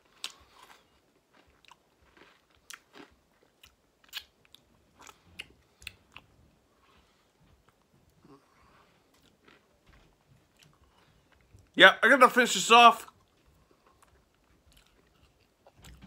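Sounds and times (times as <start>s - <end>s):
chewing and mouth smacking: 0.1s - 8.3s, 9.0s - 11.8s, 13.2s - 16.0s.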